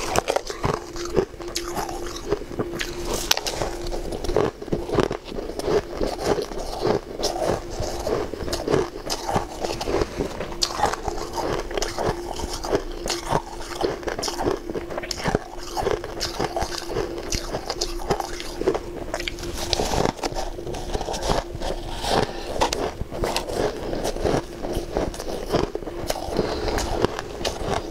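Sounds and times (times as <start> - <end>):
ice being crunched: 0.0 - 27.9
steady hum: 0.0 - 27.9.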